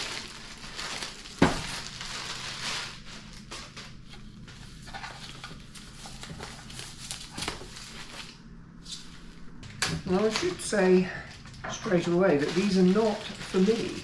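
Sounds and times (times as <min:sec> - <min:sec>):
wrapping crackling and rustling: 0:00.0 - 0:14.0.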